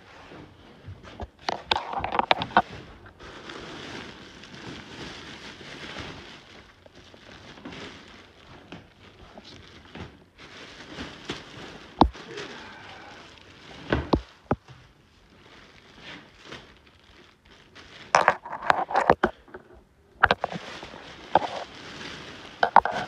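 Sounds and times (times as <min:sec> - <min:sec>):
trash rustling and scraping: 0:00.0 - 0:23.0.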